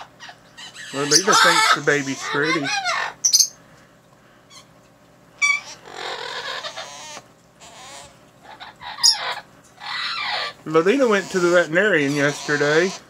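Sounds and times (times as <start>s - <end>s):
parrots chirping and squawking: 0.0s - 3.6s, 4.5s - 4.8s, 5.4s - 13.0s.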